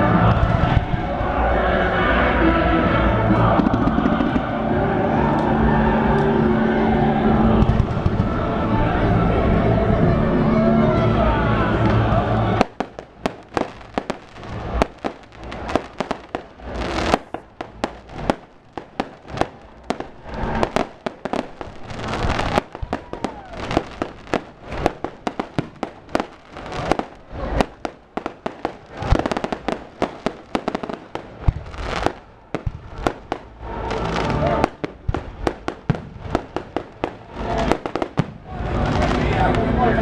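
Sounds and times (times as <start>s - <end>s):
fireworks banging and crackling: 0.0s - 2.1s, 3.2s - 10.0s, 10.9s - 40.0s.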